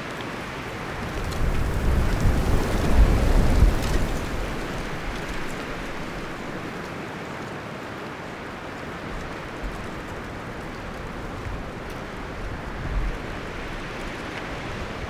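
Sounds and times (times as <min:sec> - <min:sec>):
wind rustling through leaves: 0:00.0 - 0:15.0.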